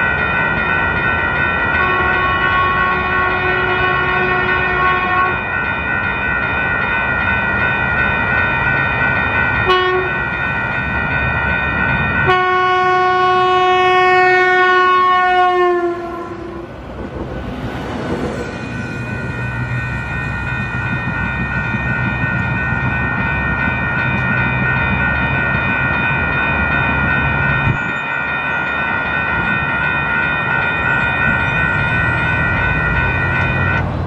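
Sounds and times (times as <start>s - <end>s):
crossing warning bells ringing: 0.0s - 34.0s
diesel railcar rumble: 0.0s - 34.0s.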